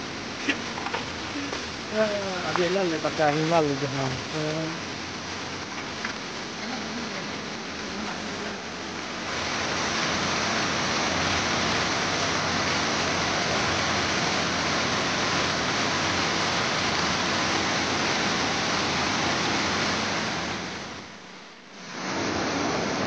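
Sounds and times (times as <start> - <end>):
waterfall rushing water: 0.0 - 21.2, 21.8 - 23.0.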